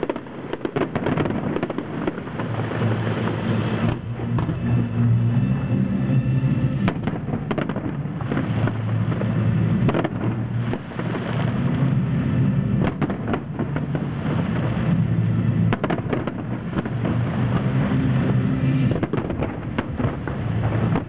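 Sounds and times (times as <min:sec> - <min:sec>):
firework shells booming: 0:00.0 - 0:05.1, 0:06.7 - 0:12.0, 0:12.7 - 0:14.8, 0:15.6 - 0:21.0.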